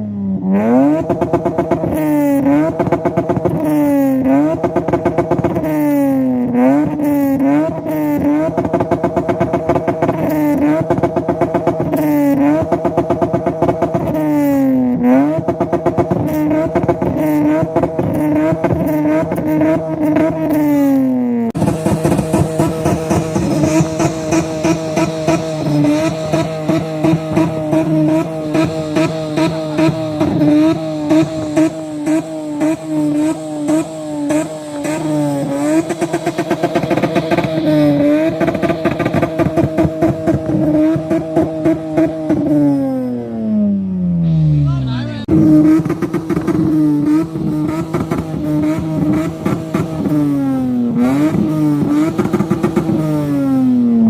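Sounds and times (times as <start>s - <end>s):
car engine revving: 0.0s - 54.0s
engine with rapid pulsing beat: 0.4s - 20.6s, 21.6s - 42.9s, 44.2s - 53.5s.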